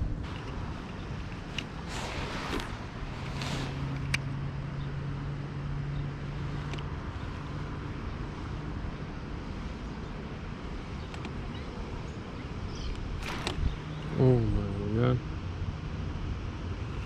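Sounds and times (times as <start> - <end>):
steady low hum: 0.0 - 17.0
wind rumbling on microphone: 0.0 - 17.0.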